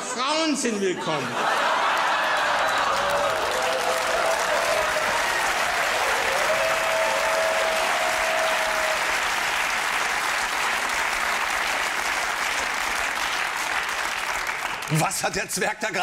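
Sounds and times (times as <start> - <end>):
audience applauding: 1.3 - 15.4.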